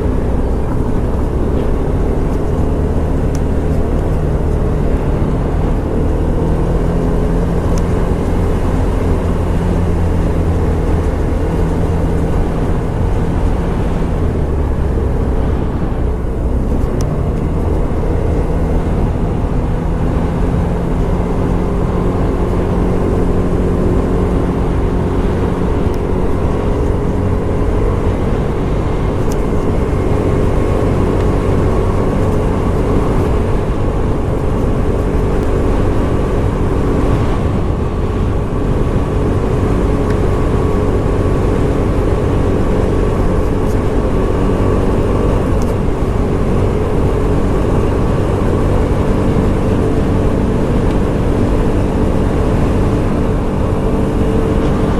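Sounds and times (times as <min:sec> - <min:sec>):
rushing noise: 0:00.0 - 0:54.9
scooter engine running: 0:00.0 - 0:54.9.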